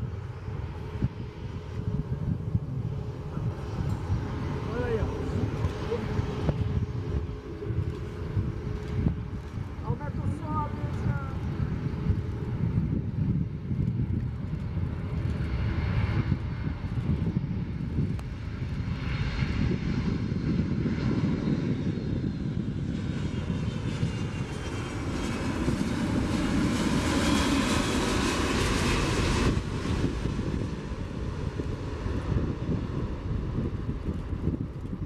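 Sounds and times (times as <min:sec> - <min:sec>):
jet aircraft noise: 0:00.0 - 0:35.0
low rumble: 0:00.0 - 0:35.0.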